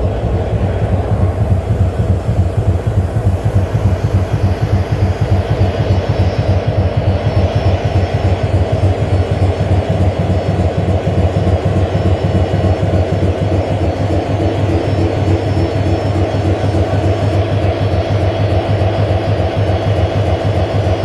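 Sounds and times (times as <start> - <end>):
diesel locomotive engine rumbling: 0.0 - 21.0.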